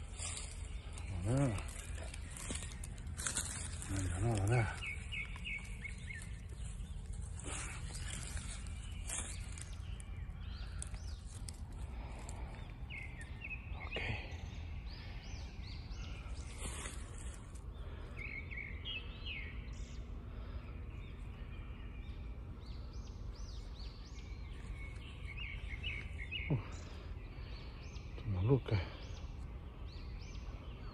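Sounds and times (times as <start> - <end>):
small birds chirping: 0.0 - 30.9
steady low rumble: 0.0 - 30.9.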